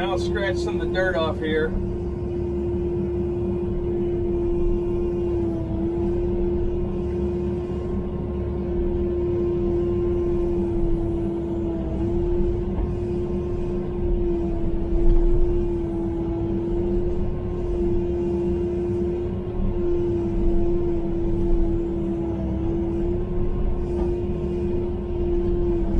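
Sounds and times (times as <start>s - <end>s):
excavator engine rumble: 0.0s - 25.9s
hydraulic whine: 0.0s - 25.9s.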